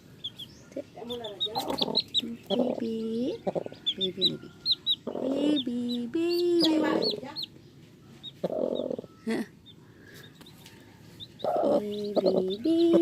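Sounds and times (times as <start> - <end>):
chicks peeping: 0.0 - 13.0
hen clucking: 0.0 - 13.0.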